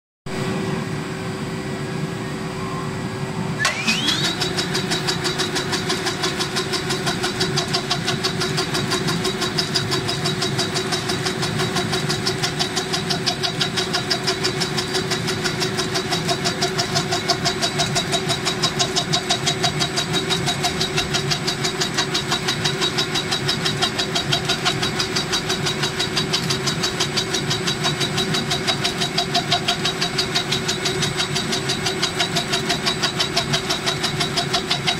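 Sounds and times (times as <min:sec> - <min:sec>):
machine whine: 0:00.3 - 0:34.9
tufting machine humming: 0:00.3 - 0:34.9
fast even clatter of tufting tool: 0:03.6 - 0:34.9.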